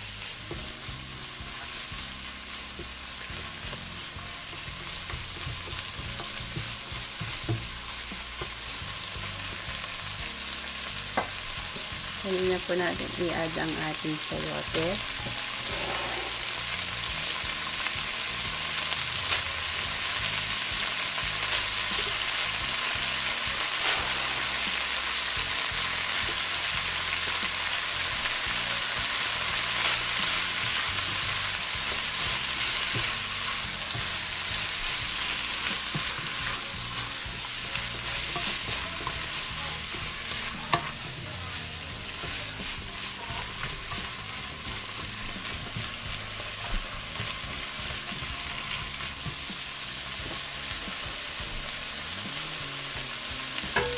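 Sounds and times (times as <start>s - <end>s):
food sizzling in a hot pot: 0.0s - 53.9s.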